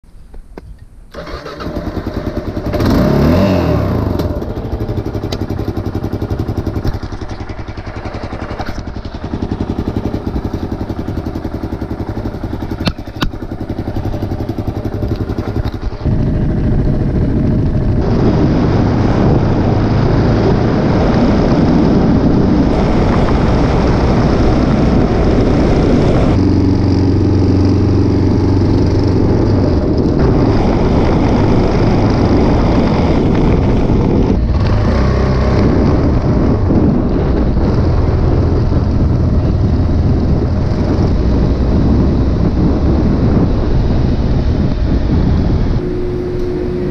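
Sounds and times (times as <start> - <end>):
motorcycle engine revving and idling: 1.2 - 46.9.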